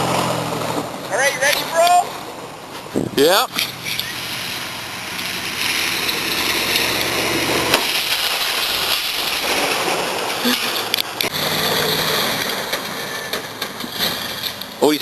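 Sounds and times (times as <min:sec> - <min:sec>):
truck engine running hard: 0:00.0 - 0:15.0
tyres spinning on gravel: 0:00.0 - 0:15.0.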